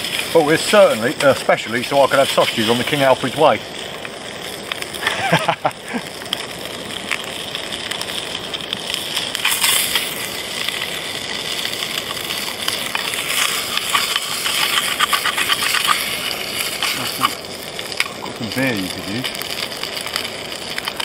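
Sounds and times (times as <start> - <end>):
gas burner hissing: 0.0 - 21.0
sausages sizzling in a pan: 0.0 - 21.0.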